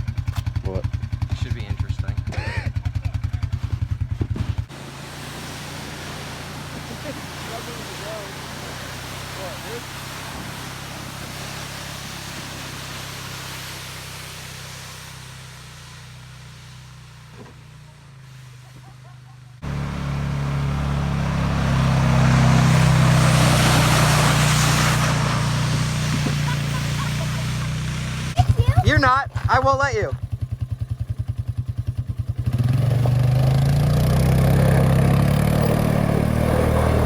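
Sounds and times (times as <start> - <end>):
vehicle engine running: 0.0 - 37.0
vehicle driving by: 4.7 - 37.0.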